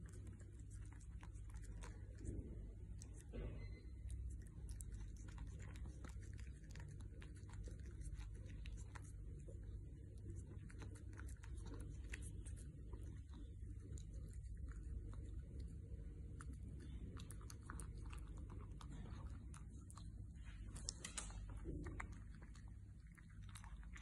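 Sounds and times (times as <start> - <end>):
low room hum: 0.0 - 24.0
puppy chewing and licking: 0.0 - 24.0.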